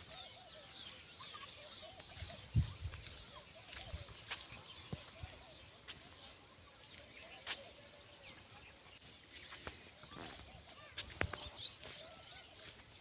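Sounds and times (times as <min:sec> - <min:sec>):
chirping calls: 0:00.0 - 0:13.0.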